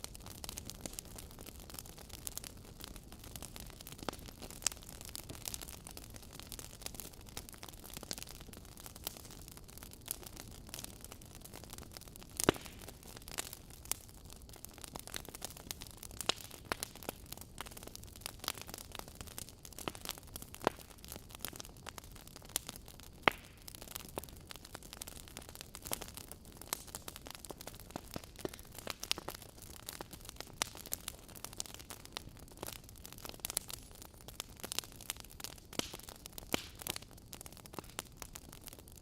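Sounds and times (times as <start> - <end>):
fire low hiss: 0.0 - 39.0
logs crackling and popping: 0.0 - 39.0.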